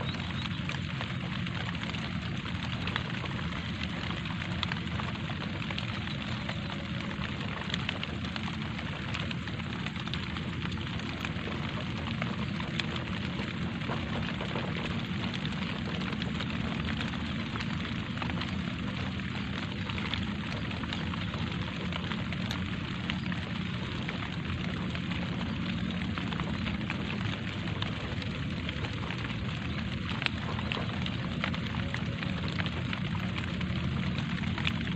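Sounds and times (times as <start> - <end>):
light rain falling: 0.0 - 34.9.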